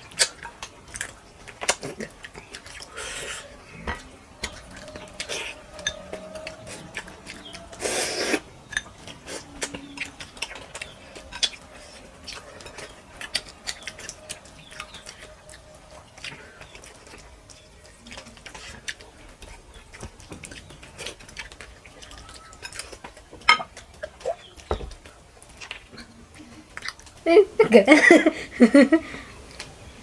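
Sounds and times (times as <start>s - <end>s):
mouth clicks and smacks chewing: 0.0s - 27.3s.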